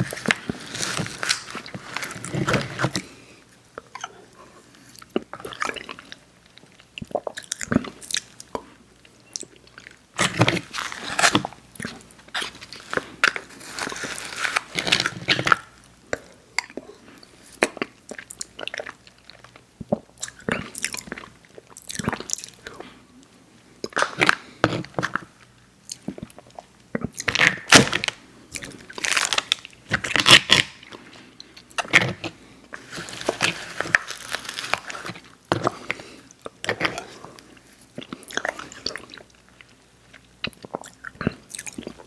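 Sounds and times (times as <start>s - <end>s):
person chewing candy: 0.0s - 3.2s, 3.8s - 23.0s, 23.8s - 42.0s.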